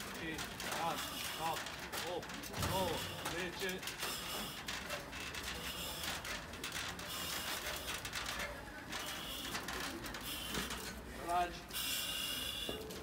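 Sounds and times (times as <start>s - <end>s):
metal ladder rattling: 0.0s - 11.1s.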